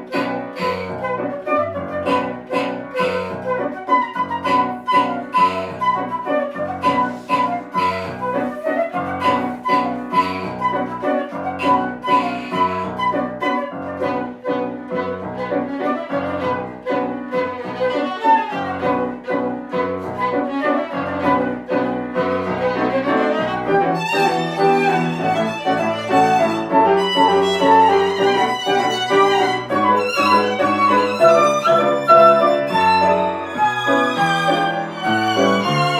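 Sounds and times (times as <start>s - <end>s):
flute: 0.0s - 35.9s
piano accompaniment: 0.0s - 35.9s
violin playing tango: 0.0s - 35.9s.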